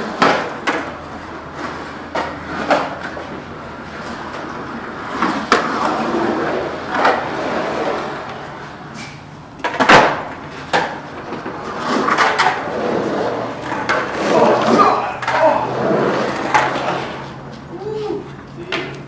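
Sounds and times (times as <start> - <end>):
skateboard clacks: 0.0 - 19.0
skateboard wheels rolling on concrete: 0.0 - 19.0.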